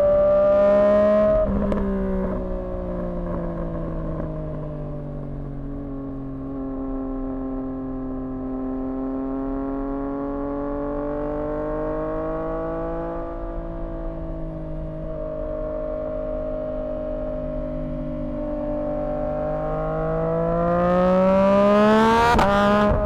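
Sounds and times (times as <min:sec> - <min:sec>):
motorcycle engine at part throttle: 0:01.4 - 0:23.0.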